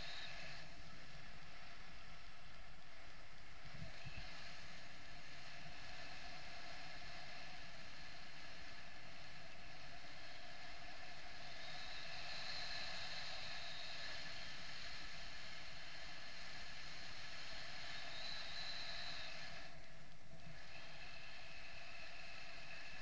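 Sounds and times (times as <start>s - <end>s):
faint whistling tones: 0.0s - 23.0s
wind rushing over camera: 0.0s - 23.0s.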